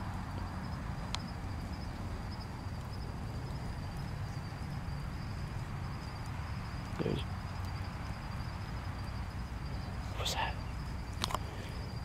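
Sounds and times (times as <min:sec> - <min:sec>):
faint high-pitched whine: 0:00.0 - 0:12.0
low rumble and hiss: 0:00.0 - 0:12.0.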